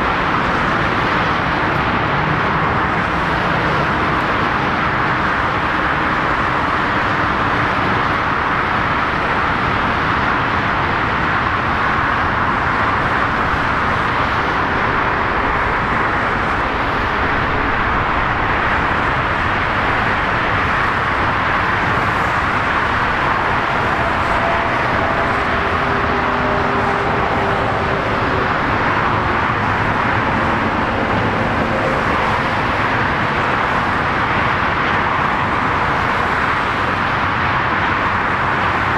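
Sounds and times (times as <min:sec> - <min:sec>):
aircraft roar: 0:00.0 - 0:38.9.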